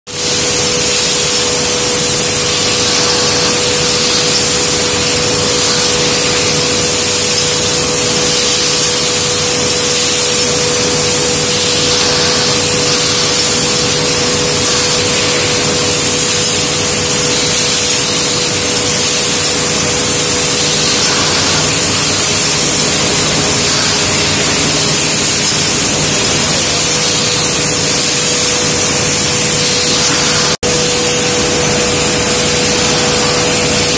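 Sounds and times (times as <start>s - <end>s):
constant mid-pitched machine tone: 0.1s - 33.9s
factory machine hissing: 0.1s - 33.9s.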